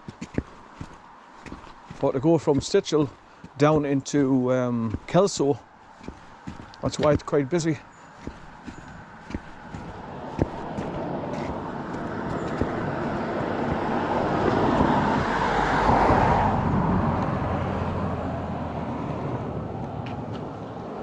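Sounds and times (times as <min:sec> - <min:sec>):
vehicle passing on road: 0:00.0 - 0:21.0.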